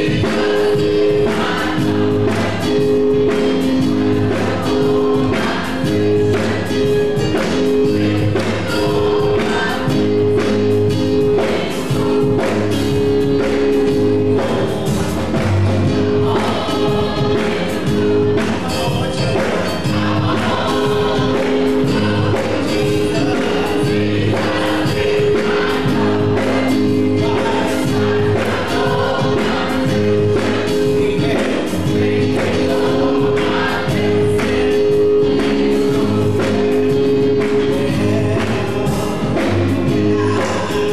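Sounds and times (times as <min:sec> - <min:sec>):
gospel choir singing: 0:00.0 - 0:40.9
keyboard sustained chords: 0:00.0 - 0:40.9
steady beat: 0:00.0 - 0:40.9.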